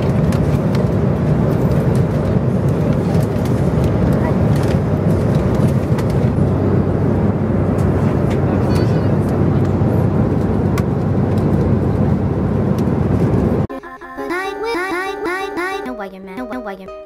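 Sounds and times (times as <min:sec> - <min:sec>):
airliner cabin engine rumble: 0:00.0 - 0:13.7.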